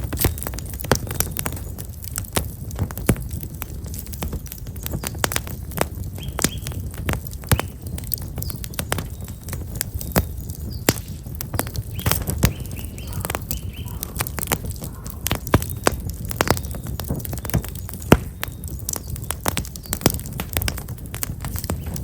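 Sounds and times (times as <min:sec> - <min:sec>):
firewood crackling and popping: 0:00.0 - 0:22.0
small birds chirping: 0:00.0 - 0:22.0.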